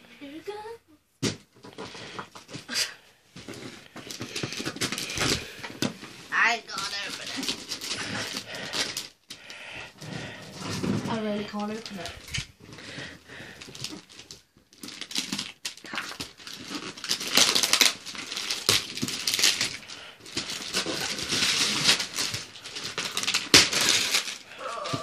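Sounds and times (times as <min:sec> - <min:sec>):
wrapping paper ripping and crinkling: 0:03.4 - 0:09.7, 0:10.5 - 0:25.0.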